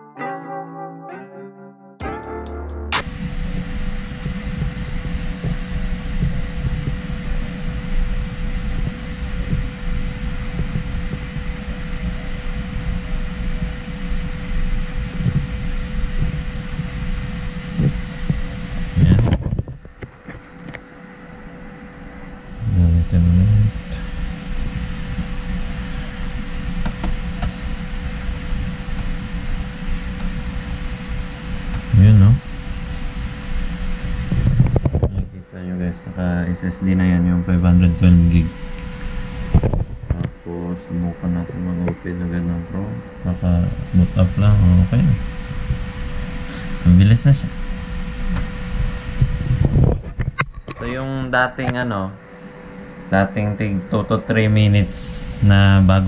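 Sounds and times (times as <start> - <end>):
fan humming with faint tone: 2.0 - 56.0.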